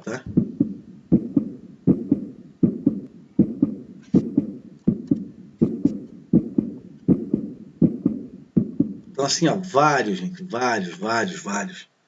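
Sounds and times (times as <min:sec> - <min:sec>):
heartbeat thumps: 0:00.3 - 0:10.5, 0:11.1 - 0:11.4.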